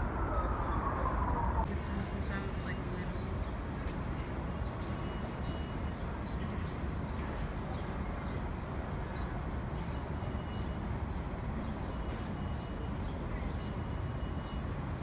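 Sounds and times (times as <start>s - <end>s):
city noise: 0.0s - 15.0s.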